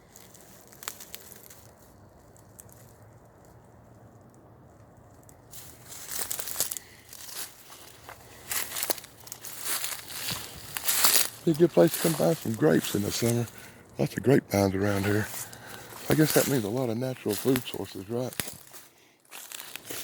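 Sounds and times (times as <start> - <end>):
footsteps crunching through dry leaves: 0.0 - 3.7, 5.1 - 20.0.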